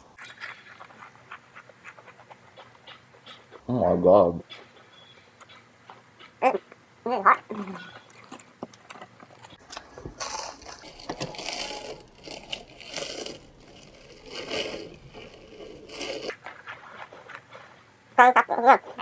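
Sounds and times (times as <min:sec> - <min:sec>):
crackers being crunched and chewed: 0:00.2 - 0:03.6, 0:05.4 - 0:17.8.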